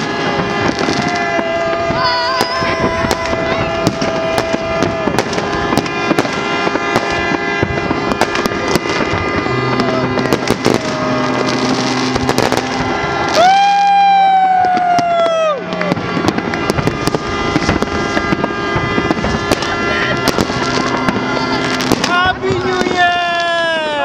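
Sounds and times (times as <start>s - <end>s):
fireworks bangs and crackles: 0.0s - 24.0s
long steady tones: 0.0s - 24.0s.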